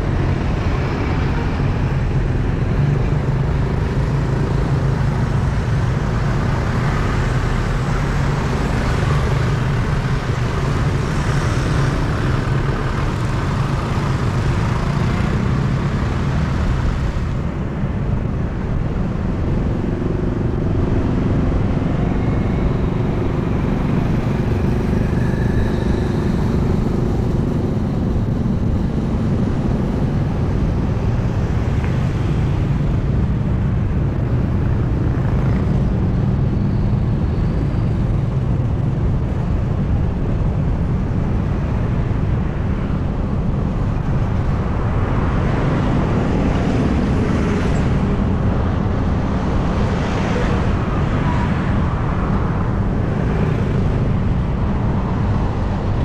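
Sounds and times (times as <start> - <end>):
traffic noise: 0.0 - 56.0
vehicle engine and road rumble: 0.0 - 56.0
vehicles passing: 0.0 - 56.0.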